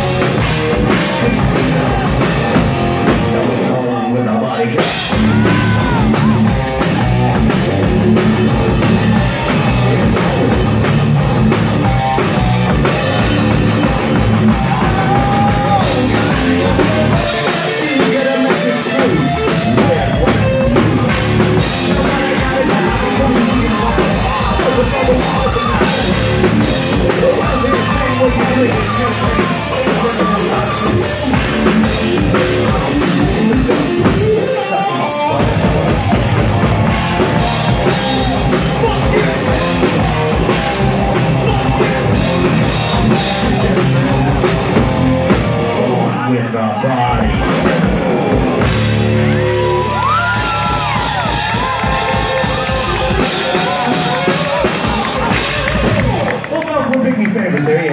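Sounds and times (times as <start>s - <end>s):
person singing: 0.0s - 8.8s, 12.8s - 44.9s, 46.0s - 56.3s
drum kit: 0.0s - 46.1s, 47.0s - 57.3s
electric guitar: 0.0s - 57.9s.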